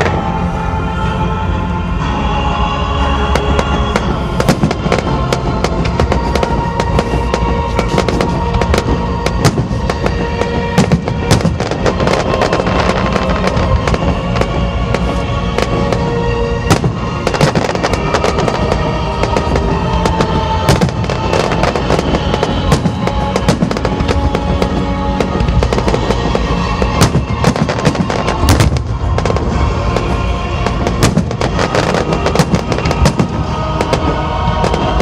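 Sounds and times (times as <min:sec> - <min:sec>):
music playing: 0:00.0 - 0:35.0
fireworks bangs and crackling: 0:03.0 - 0:35.0.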